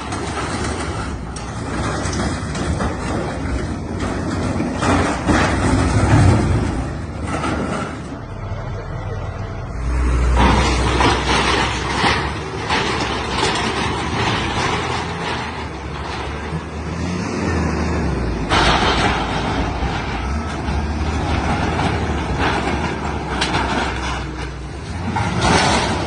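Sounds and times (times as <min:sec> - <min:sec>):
heavy machinery engine rumbling: 0:00.0 - 0:26.0.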